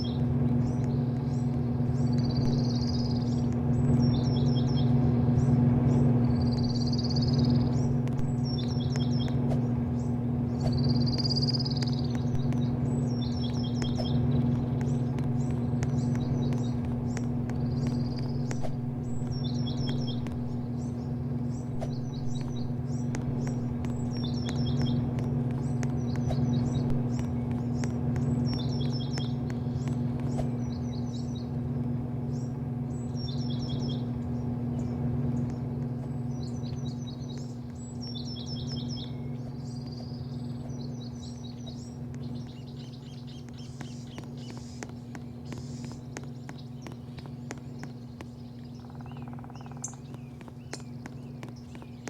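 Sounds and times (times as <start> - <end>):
birds chirping: 0.0 - 52.0
low machine hum: 0.0 - 52.0.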